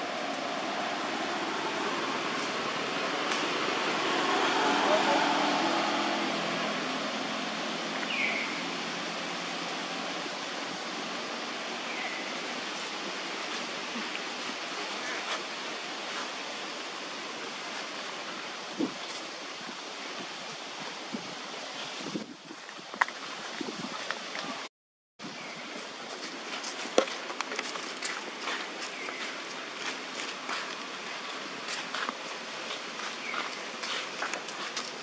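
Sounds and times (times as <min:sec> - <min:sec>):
rushing outdoor background noise: 0:00.0 - 0:35.0.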